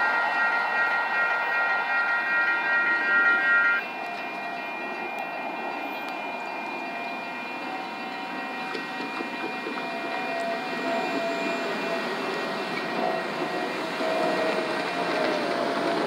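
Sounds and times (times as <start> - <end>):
steady high-pitched hum: 0.0 - 14.9.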